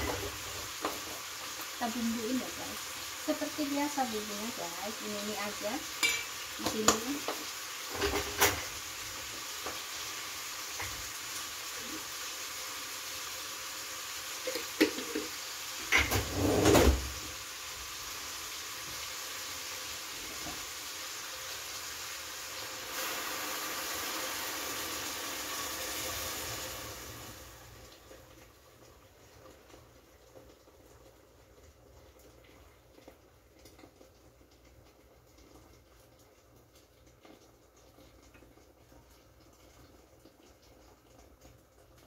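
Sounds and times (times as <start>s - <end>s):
chicken sizzling in a pot: 0.0s - 42.0s.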